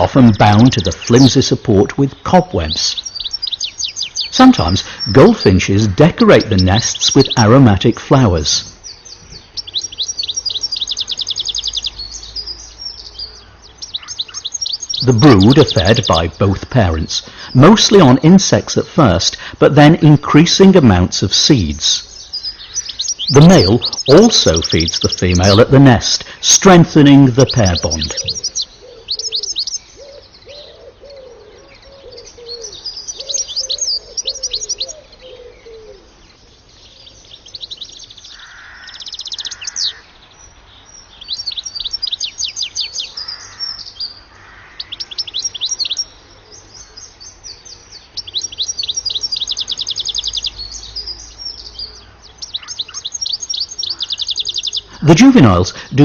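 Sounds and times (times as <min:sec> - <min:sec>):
finch chirps and trills: 0:00.0 - 0:56.0.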